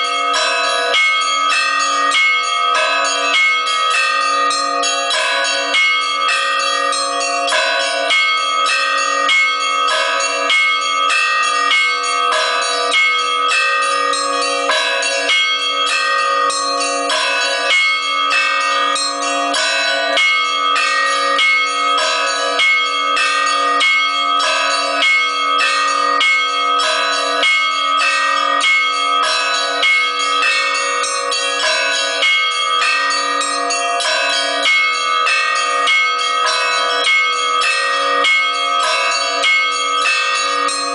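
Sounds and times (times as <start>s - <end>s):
low bell ringing: 0.0s - 40.9s
small church bells chiming: 0.0s - 40.9s.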